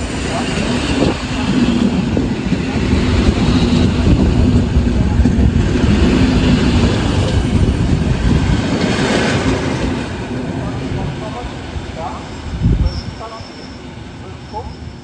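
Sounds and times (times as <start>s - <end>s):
electric train rumbling: 0.0s - 15.0s
train hum: 0.0s - 15.0s.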